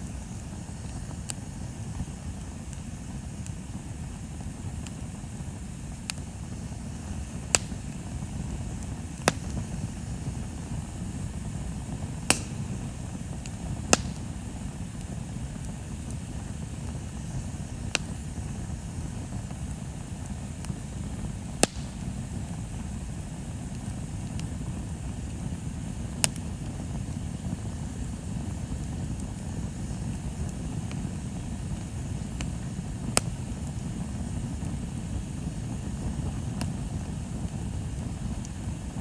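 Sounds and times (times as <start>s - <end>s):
bonfire rumbling: 0.0s - 39.0s
burning wood popping: 0.0s - 39.0s.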